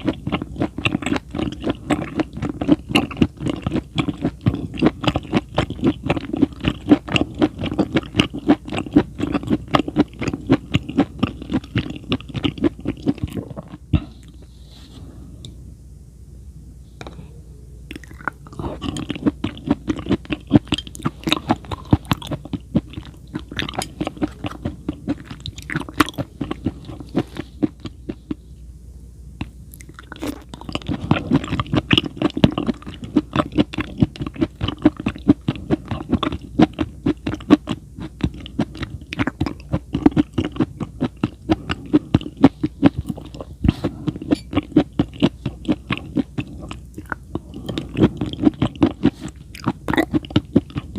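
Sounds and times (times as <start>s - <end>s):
crunchy chewing: 0.0s - 14.5s, 17.9s - 28.4s, 29.7s - 50.9s.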